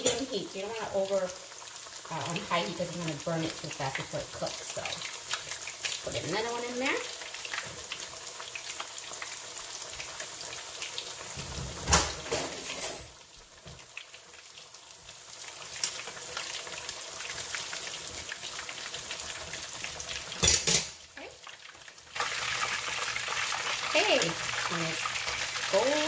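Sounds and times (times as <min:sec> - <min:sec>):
oil sizzling and crackling: 0:00.0 - 0:26.0.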